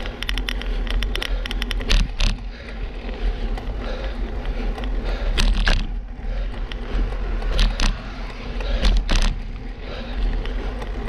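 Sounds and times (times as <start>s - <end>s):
bicycle tyres on asphalt: 0.0s - 11.0s.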